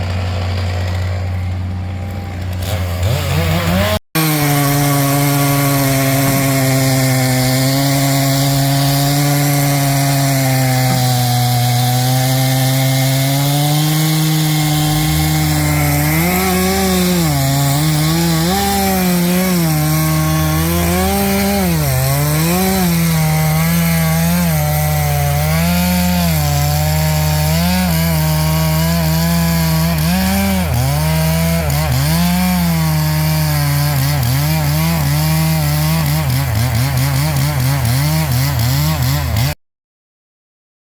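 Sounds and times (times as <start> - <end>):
chainsaw cutting wood: 0.0 - 39.6.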